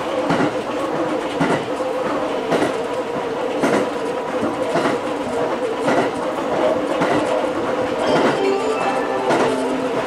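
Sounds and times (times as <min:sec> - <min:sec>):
electric train hum: 0:00.0 - 0:10.0.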